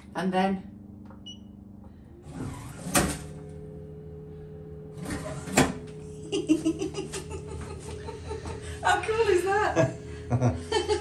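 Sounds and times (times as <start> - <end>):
toilet motor hum: 0.0 - 11.0.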